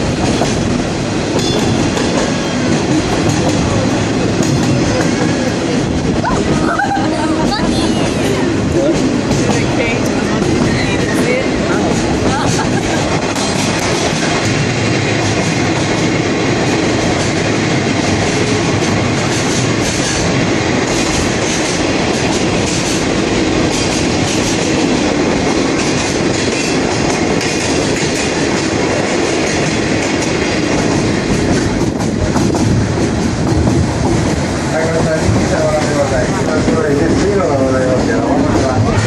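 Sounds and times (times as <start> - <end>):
train carriage rumbling and rattling: 0.0 - 39.0.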